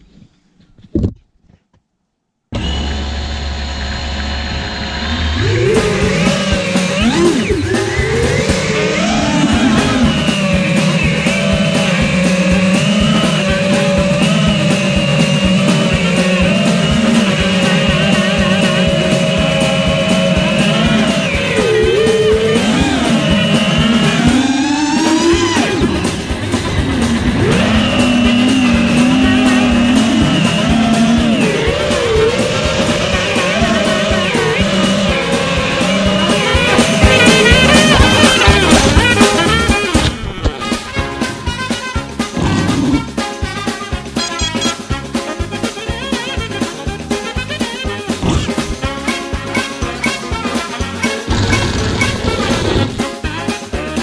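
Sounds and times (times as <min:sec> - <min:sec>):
drone motors whining: 0:02.5 - 0:43.4, 0:47.8 - 0:53.2.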